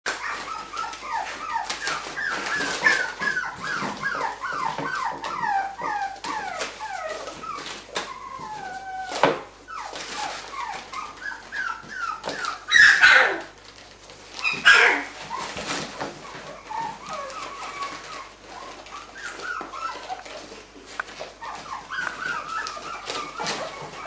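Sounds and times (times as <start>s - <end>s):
paper crackling: 0.1s - 24.0s
puppies yipping and whimpering: 0.1s - 24.0s.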